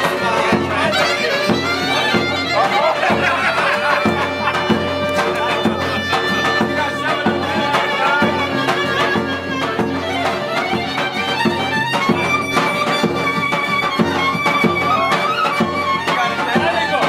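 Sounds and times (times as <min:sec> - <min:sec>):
lively fiddle tune over a beat: 0:00.0 - 0:17.0.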